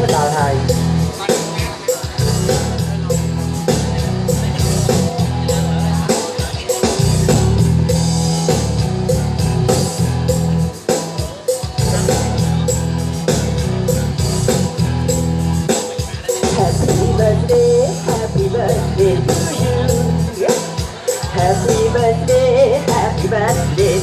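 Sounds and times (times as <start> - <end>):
bass: 0.0 - 1.3, 2.1 - 6.2, 6.8 - 10.9, 11.7 - 15.8, 16.4 - 20.4, 21.3 - 24.0
guitar: 0.0 - 24.0
steady drum beat: 0.0 - 24.0.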